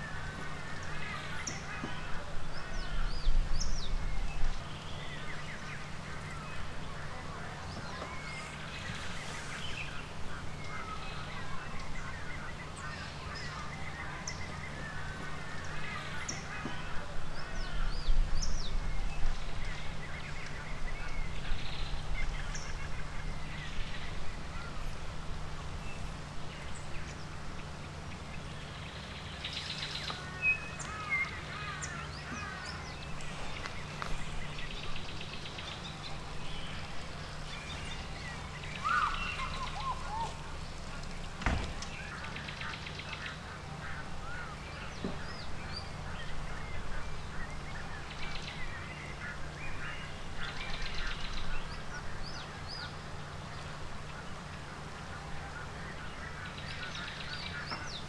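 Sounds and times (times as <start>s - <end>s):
birds calling and chirping: 0.0s - 58.0s
steady low hum: 0.0s - 58.0s.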